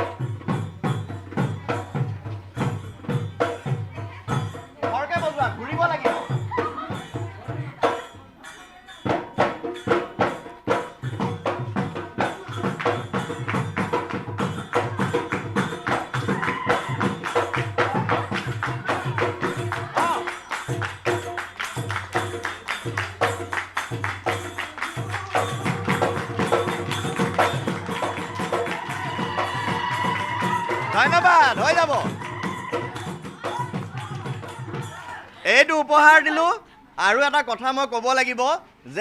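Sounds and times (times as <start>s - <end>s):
jingling percussion: 0.0s - 36.6s
dhol drumming fast beat: 0.0s - 38.4s.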